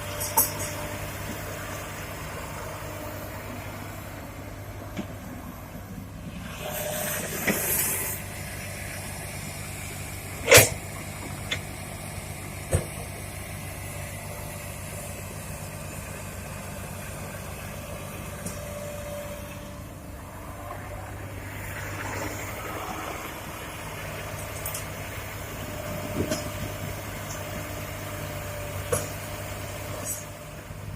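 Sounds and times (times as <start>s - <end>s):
diesel engine hum: 0.0s - 30.9s.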